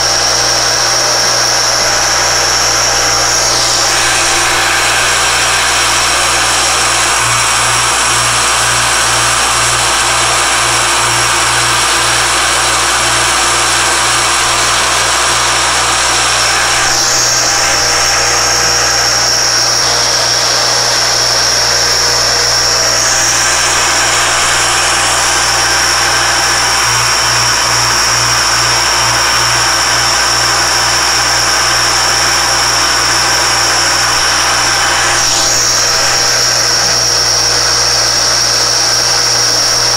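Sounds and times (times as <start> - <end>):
engraving machine running with whine: 0.0 - 39.9.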